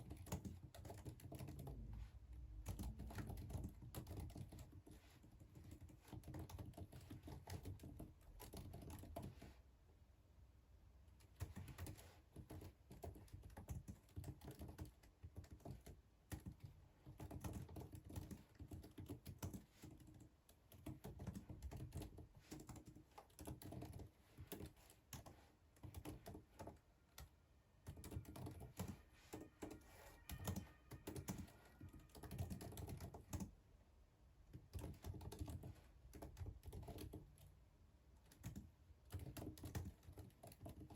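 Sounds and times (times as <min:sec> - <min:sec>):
computer keyboard typing: 0:00.0 - 0:01.9, 0:02.6 - 0:09.5, 0:11.2 - 0:33.5, 0:34.5 - 0:37.5, 0:38.2 - 0:40.9.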